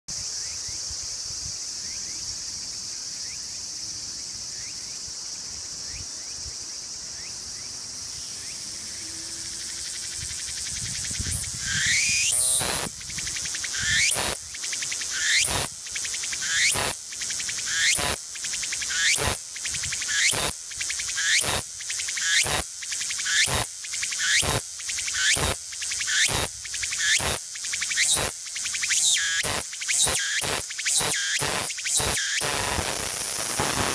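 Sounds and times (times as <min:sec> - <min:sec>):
cicada singing: 0:00.1 - 0:33.9.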